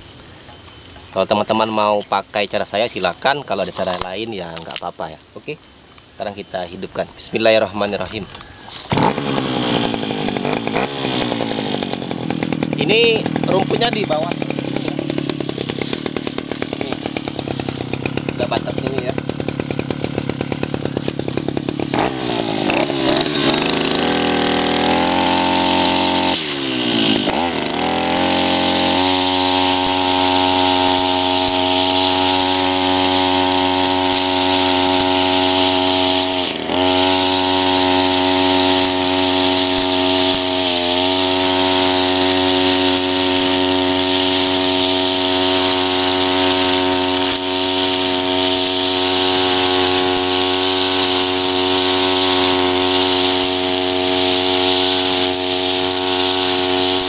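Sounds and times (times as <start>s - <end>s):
trimmer cutting grass: 0.0s - 5.5s, 6.3s - 57.0s
brush cutter engine revving: 0.0s - 57.0s.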